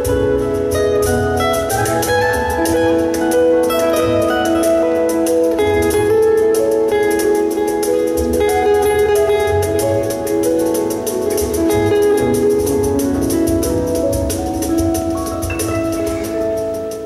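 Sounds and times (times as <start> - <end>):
acoustic guitar: 0.0 - 17.0
plucked double bass: 0.0 - 17.0.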